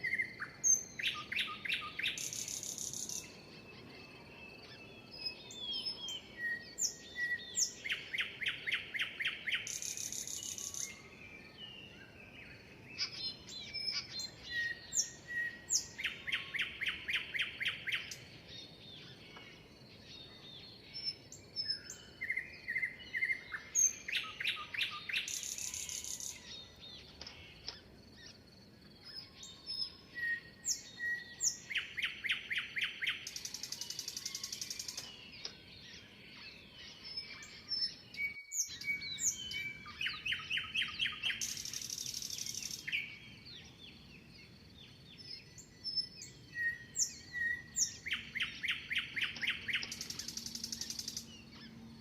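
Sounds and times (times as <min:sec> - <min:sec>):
songbirds chirping and singing: 0:00.0 - 0:52.0.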